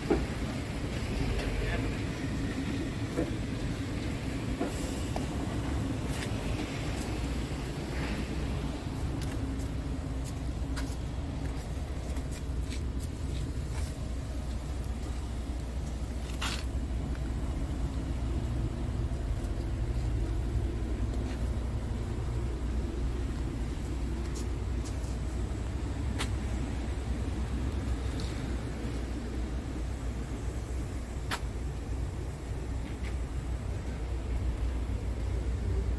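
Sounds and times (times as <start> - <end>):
diesel truck engine idling: 0.0 - 35.9.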